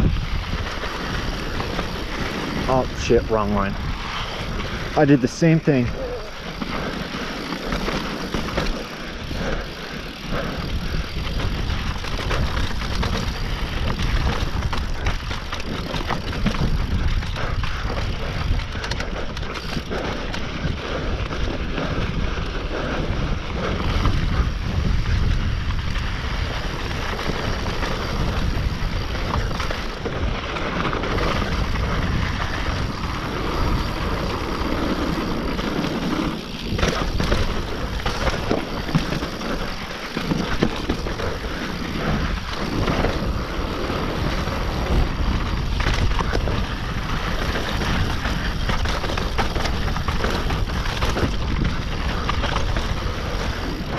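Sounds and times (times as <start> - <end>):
bike rattling over bumps: 0.0 - 53.9
tyres rumbling on dirt and rock: 0.0 - 53.9
wind buffeting microphone: 0.0 - 53.9.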